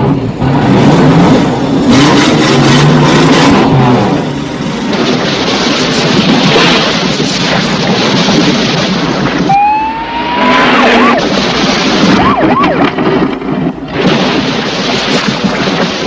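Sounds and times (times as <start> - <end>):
car engines running hard: 0.0 - 16.0
road noise: 0.0 - 16.0.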